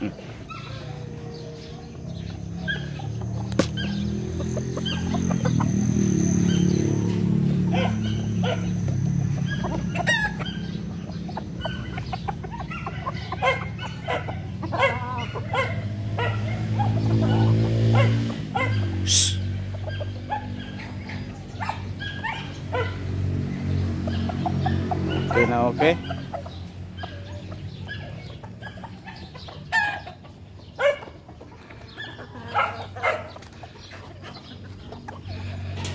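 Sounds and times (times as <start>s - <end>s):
roosters clucking: 0.0s - 35.9s.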